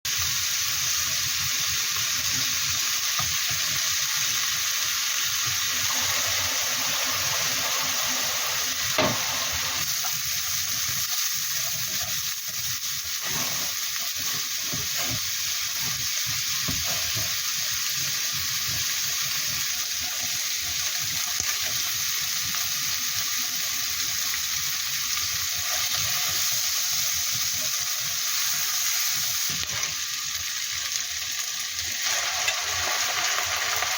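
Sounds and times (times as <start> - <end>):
food sizzling in a frying pan: 0.1 - 33.9.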